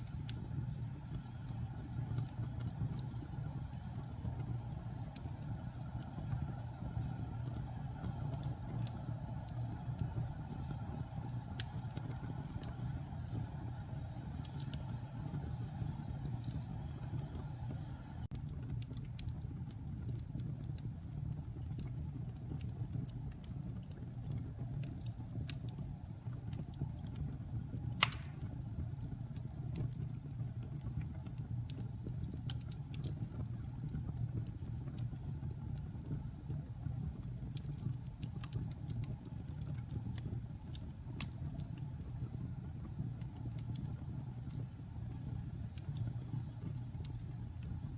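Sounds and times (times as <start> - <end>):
fire burning with crackles and pops: 0.0 - 47.9.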